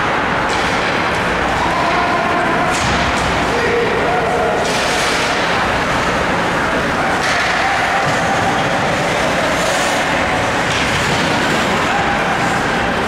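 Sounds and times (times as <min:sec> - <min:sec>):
ice rink crowd din: 0:00.0 - 0:13.0.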